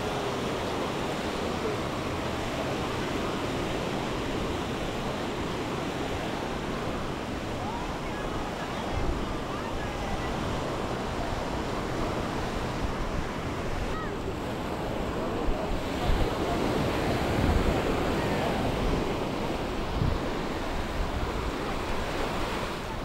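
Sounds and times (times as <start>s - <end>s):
small waves washing on sand: 0.0s - 23.0s
wind on microphone: 0.0s - 23.0s.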